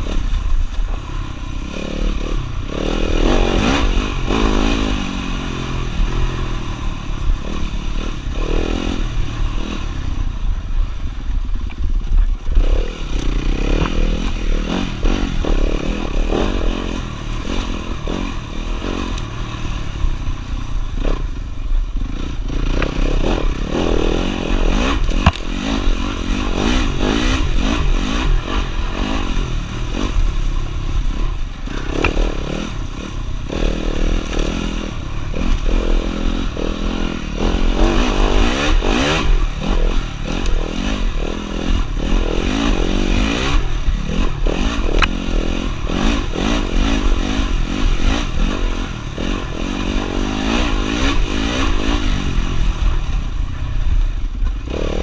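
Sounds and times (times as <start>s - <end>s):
dirt bike engine revving: 0.0s - 11.0s, 12.0s - 55.0s.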